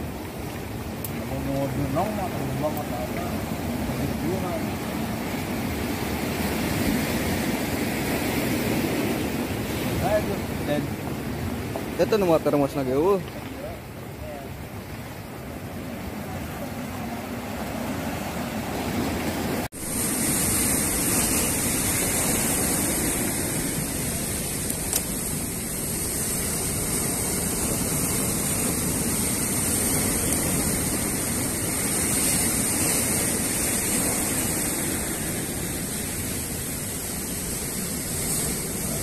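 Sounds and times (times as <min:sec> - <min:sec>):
ocean surf over rocks: 0:00.0 - 0:39.0.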